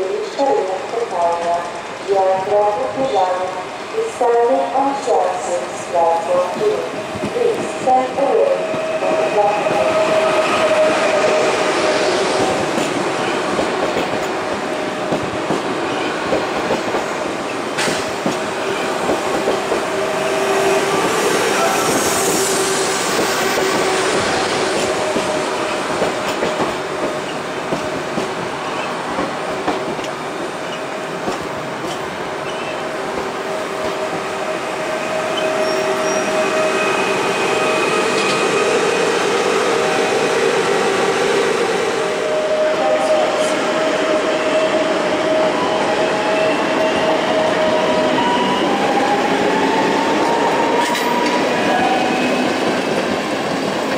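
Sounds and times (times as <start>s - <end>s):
train running gear whine: 0.0s - 53.9s.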